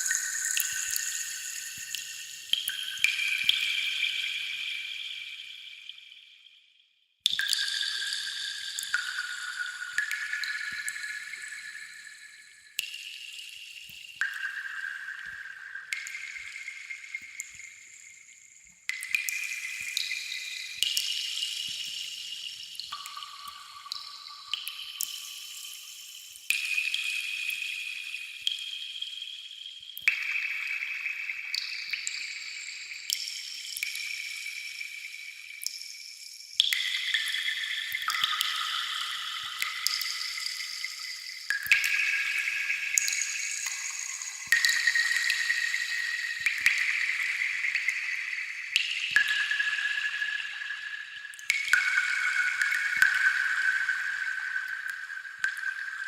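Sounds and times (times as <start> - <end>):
resonant water drops plinking: 0.0 - 6.0, 7.2 - 56.0
faint small drips ticking: 0.0 - 6.2, 7.2 - 56.0.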